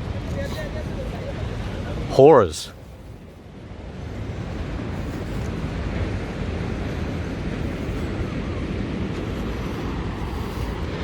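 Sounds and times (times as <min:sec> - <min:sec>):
wind on microphone: 0:00.0 - 0:02.1, 0:02.8 - 0:11.0
ocean surf breaking: 0:00.0 - 0:11.0.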